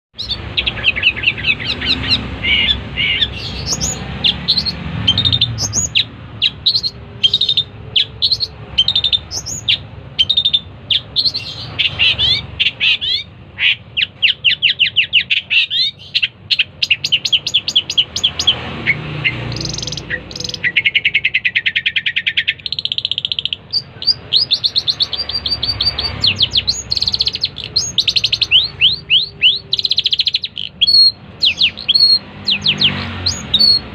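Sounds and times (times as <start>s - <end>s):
shrike chirps and trills: 0.1s - 33.9s.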